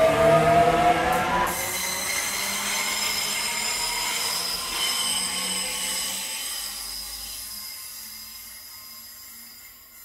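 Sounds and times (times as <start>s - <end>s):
train wheels squealing: 1.5s - 10.0s.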